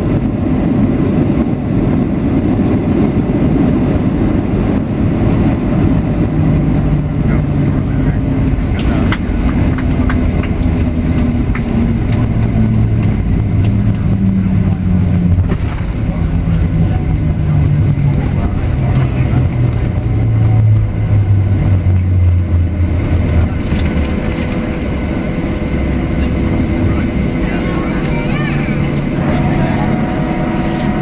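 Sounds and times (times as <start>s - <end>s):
jet engines spooling down: 0.0s - 31.0s.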